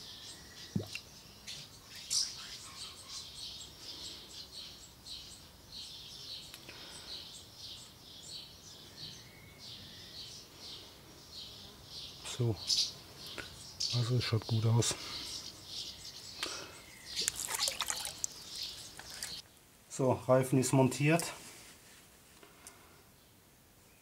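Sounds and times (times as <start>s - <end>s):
small birds chirping: 0.0s - 21.3s, 22.5s - 24.0s.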